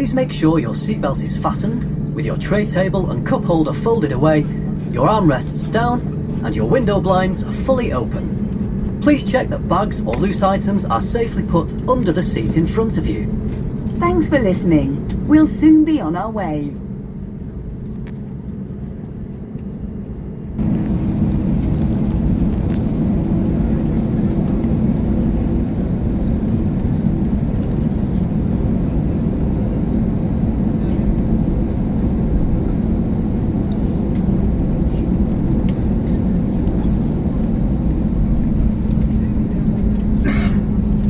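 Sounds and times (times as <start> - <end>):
jet engine and cabin noise: 0.0 - 41.0.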